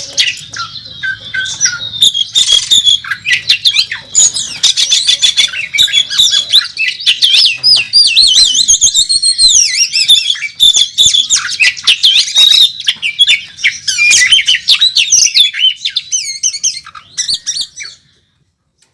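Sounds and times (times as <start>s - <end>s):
songbird singing with mimicked calls: 0.0s - 18.2s.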